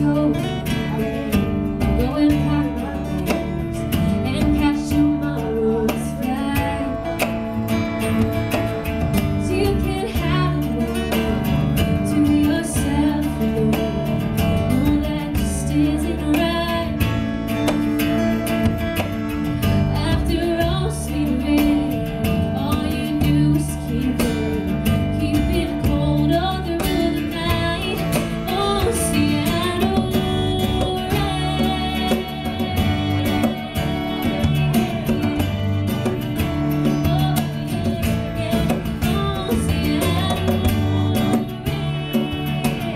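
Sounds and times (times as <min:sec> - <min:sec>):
acoustic guitar: 0:00.0 - 0:42.9
woman singing: 0:00.0 - 0:42.9.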